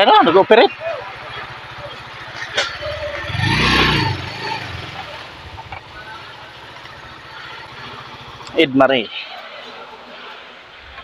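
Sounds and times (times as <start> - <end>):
motorcycle engine idling and revving: 0.0 - 10.4.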